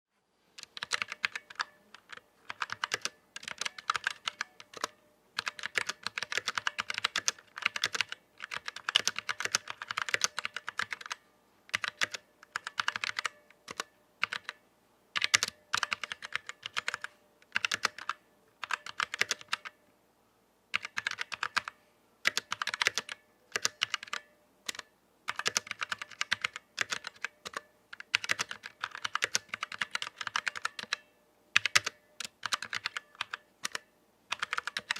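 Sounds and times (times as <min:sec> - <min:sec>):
mechanical keyboard typing: 0:00.6 - 0:14.6, 0:15.2 - 0:19.8, 0:20.7 - 0:34.9.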